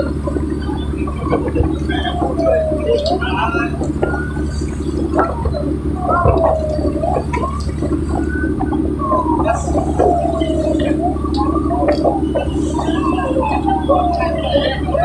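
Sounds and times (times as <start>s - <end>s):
boat engine humming: 0.0s - 15.0s
voices calling out: 0.0s - 15.0s.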